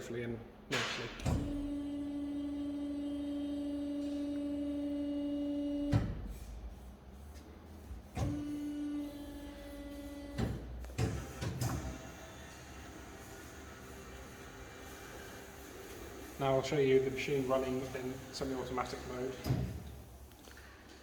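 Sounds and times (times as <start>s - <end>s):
hydraulic pump motor humming: 0.7s - 20.6s.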